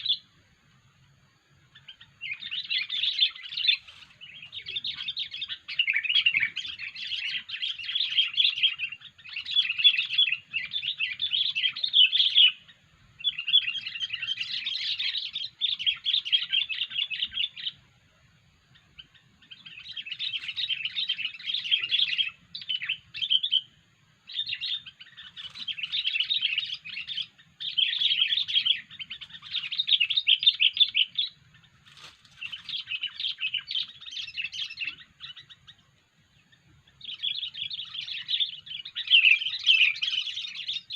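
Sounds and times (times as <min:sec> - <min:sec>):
bird chattering song: 0:00.0 - 0:00.4, 0:01.5 - 0:18.0, 0:18.6 - 0:40.9.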